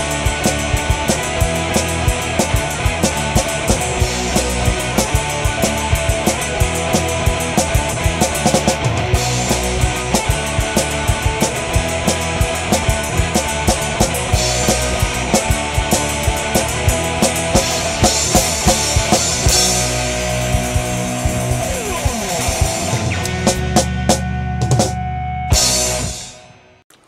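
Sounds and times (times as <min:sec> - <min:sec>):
fast drum kit beat: 0:00.0 - 0:26.4
rock music: 0:00.0 - 0:26.8.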